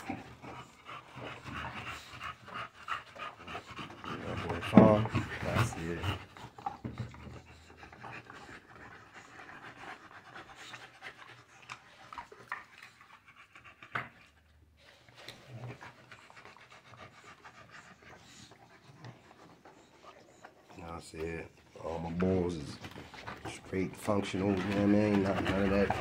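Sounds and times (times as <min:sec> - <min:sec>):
dogs gnawing on chew bones: 0:00.0 - 0:26.0
dogs panting: 0:00.0 - 0:26.0.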